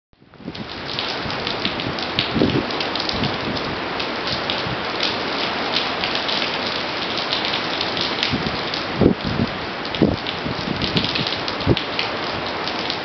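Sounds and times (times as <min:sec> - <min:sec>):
heavy rain on concrete: 0:00.2 - 0:13.0
wind gusts rumbling: 0:00.3 - 0:13.0.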